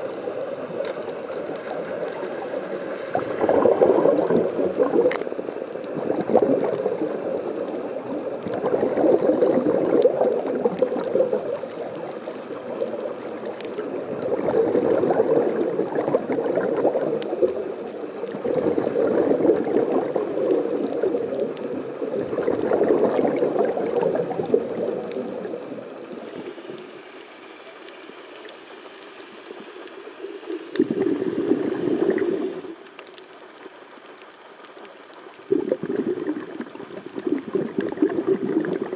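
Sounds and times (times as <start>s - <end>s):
underwater exhaled bubbles rushing: 0.0s - 27.6s, 29.4s - 33.6s, 34.2s - 38.9s.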